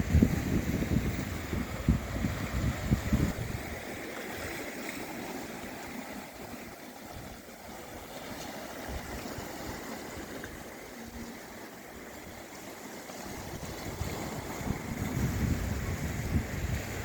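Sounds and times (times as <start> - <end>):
wind buffeting microphone: 0.0 - 4.6, 7.1 - 12.5, 13.1 - 17.0
sea waves washing: 0.0 - 17.0.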